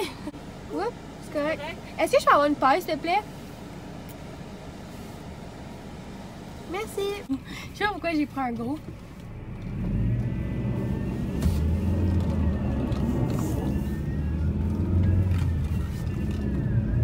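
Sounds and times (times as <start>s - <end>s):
car engine low rumble: 0.0s - 17.0s
road noise inside car: 0.0s - 17.0s.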